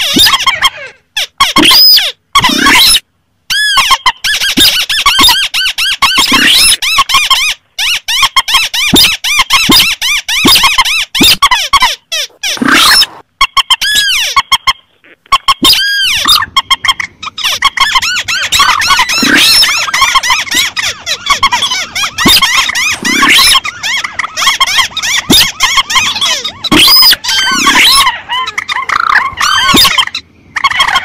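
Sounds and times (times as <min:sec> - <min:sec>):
rail and crake calls: 0:00.0 - 0:31.0.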